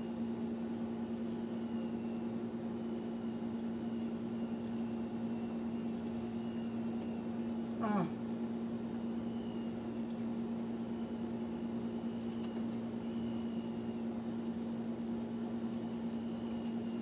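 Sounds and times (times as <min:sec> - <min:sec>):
appliance motor humming: 0:00.0 - 0:17.0.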